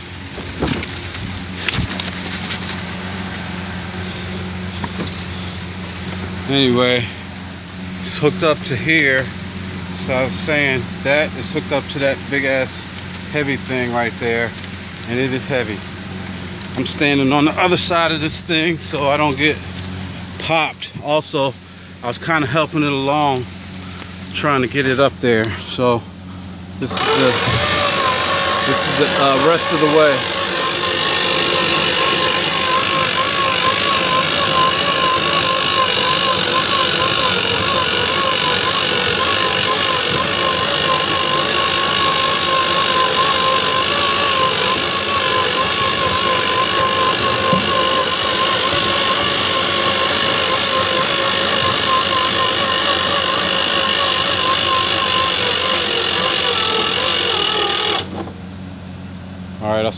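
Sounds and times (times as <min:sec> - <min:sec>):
electric winch motor whine: 0:00.0 - 0:58.4.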